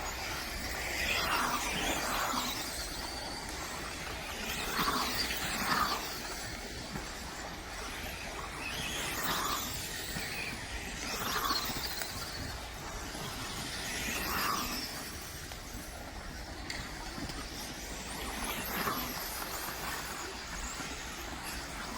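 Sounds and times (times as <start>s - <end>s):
remote-control car motors whining: 0.0s - 21.9s.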